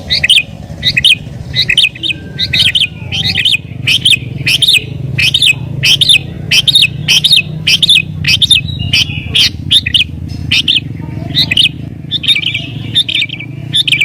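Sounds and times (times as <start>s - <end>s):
bird sharp chirps: 0.0s - 14.0s.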